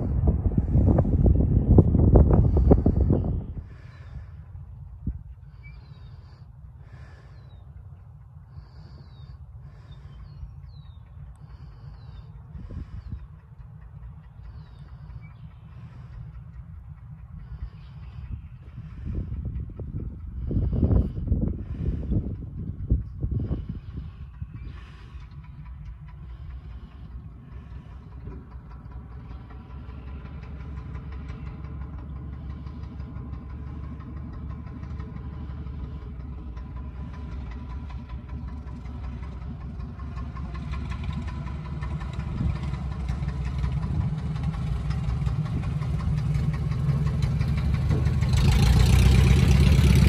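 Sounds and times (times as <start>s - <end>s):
propeller airplane engine taxiing: 0.0s - 50.0s.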